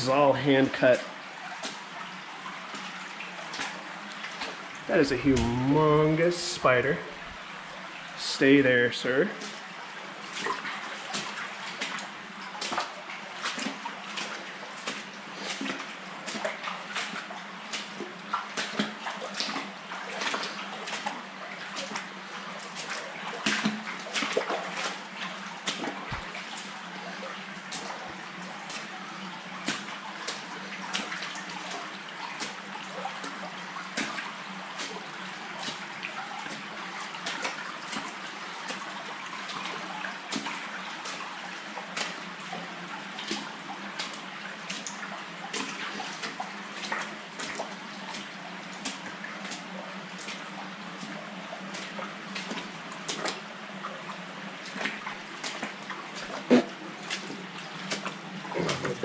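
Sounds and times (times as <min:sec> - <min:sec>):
trickle of flowing water: 0:00.0 - 0:59.0
footsteps splashing through water: 0:01.0 - 0:07.5, 0:09.3 - 0:59.0.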